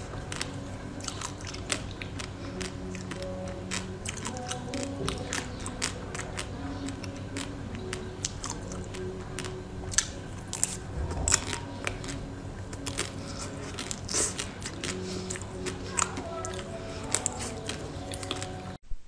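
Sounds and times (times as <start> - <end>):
crunchy treat biting and chewing: 0.3 - 7.5, 8.2 - 18.5.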